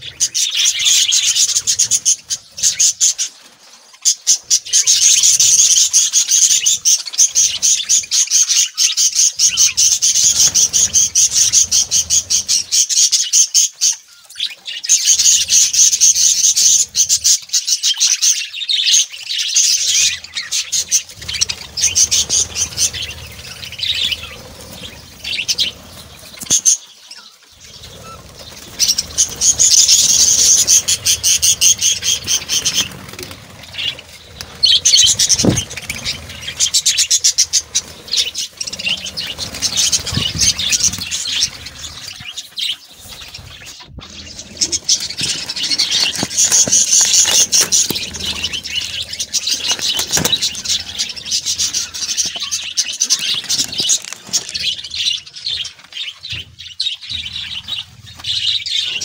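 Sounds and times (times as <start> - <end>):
budgerigars chattering: 0.0 - 3.4, 4.0 - 59.0.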